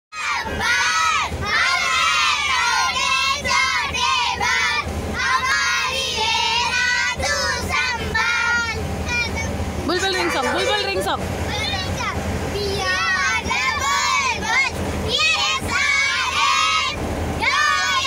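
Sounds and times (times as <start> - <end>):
young children shouting: 0.2 - 18.0.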